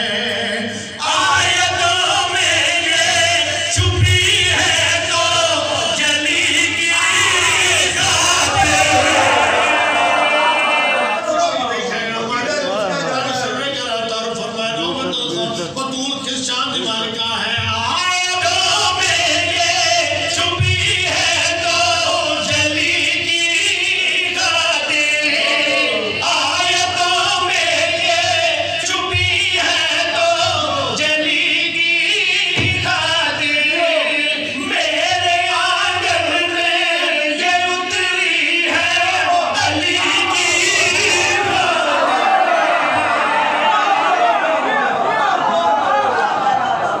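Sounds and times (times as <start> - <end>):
men singing over pa: 0.0 - 11.3, 17.6 - 44.3.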